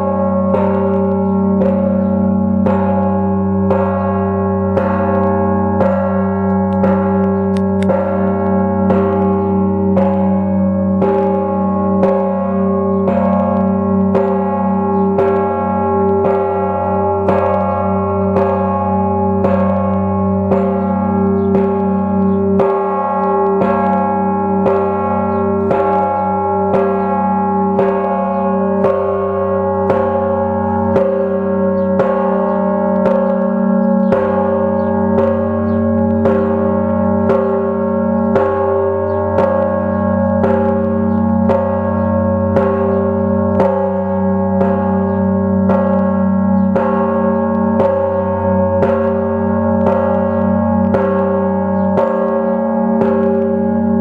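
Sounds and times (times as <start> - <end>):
church bell ringing: 0.0 - 54.0.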